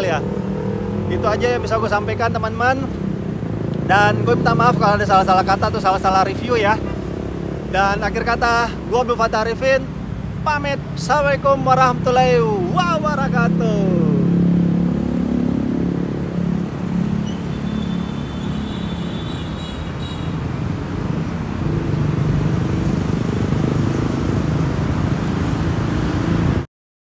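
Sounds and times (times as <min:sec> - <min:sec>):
road traffic rumble: 0:00.0 - 0:26.7.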